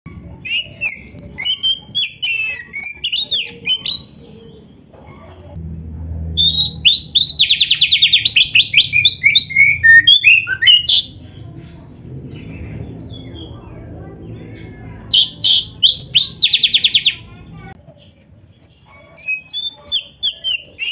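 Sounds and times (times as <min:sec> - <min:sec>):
magpie-robin singing: 0:00.2 - 0:17.4, 0:18.0 - 0:20.9.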